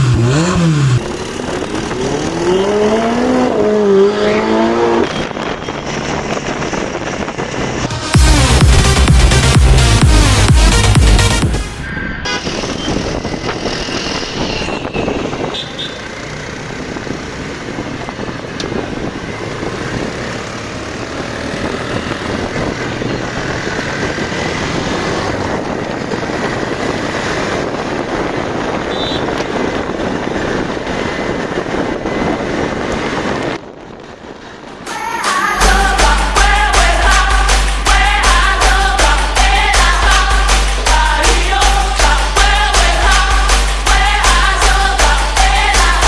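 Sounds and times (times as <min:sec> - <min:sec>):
street traffic: 0:00.0 - 0:46.0.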